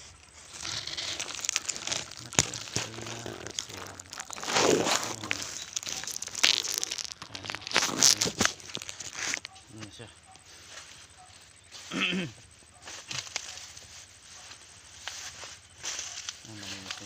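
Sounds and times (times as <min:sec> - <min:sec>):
leaves rustling against microphone: 0:00.0 - 0:17.0.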